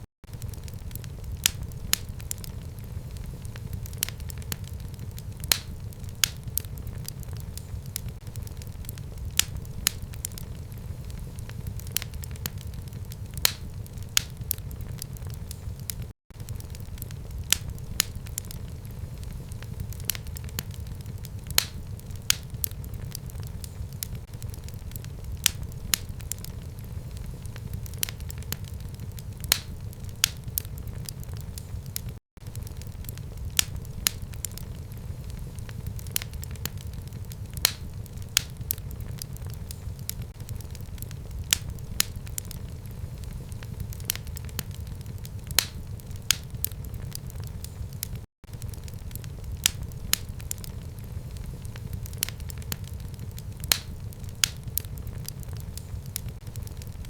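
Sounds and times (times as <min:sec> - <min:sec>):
fire low rumble: 0:00.0 - 0:57.0
fire crackles and pops: 0:00.2 - 0:57.0.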